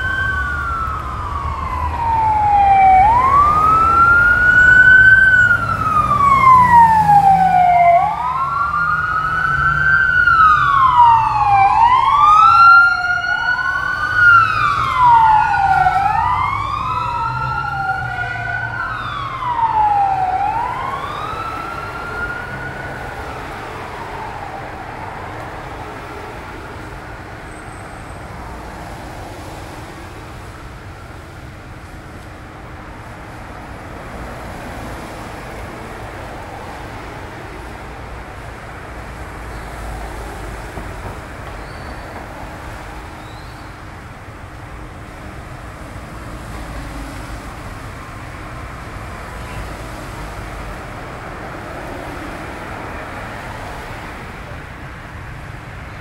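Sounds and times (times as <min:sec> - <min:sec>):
emergency sirens wailing: 0:00.0 - 0:56.0
street traffic noise: 0:00.0 - 0:56.0.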